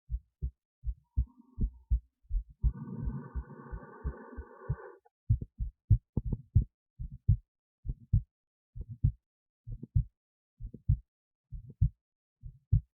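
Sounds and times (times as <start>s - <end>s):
heartbeat thuds: 0.1s - 12.9s.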